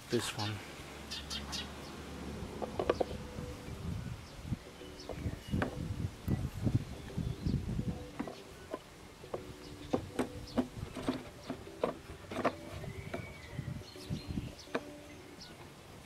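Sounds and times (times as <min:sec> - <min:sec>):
low buzzing hum: 0:00.6 - 0:16.0.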